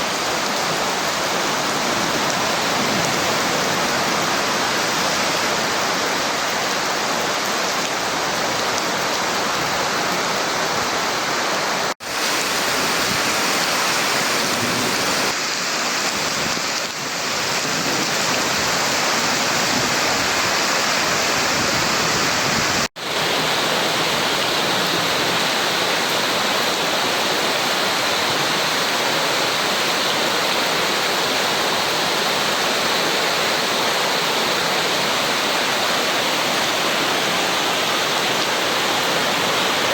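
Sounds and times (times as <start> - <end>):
heavy rain: 0.0 - 39.9
running water: 0.0 - 39.9.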